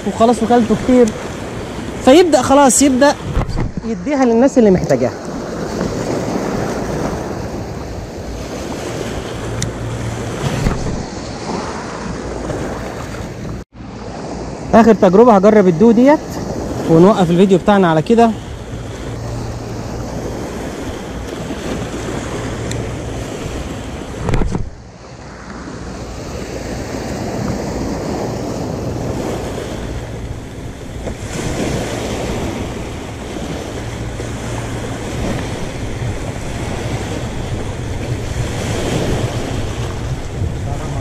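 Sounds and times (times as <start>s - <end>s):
waves breaking on rocky shore: 0.0s - 41.0s
wind buffeting microphone: 0.0s - 41.0s.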